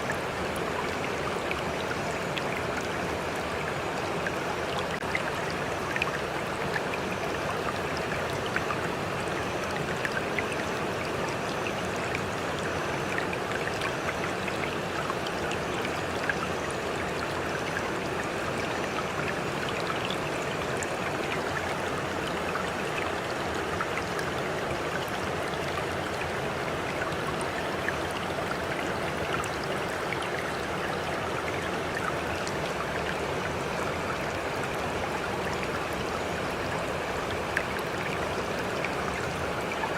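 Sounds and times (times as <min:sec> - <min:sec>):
running water: 0:00.0 - 0:39.9
water splashes and drips: 0:00.0 - 0:39.9.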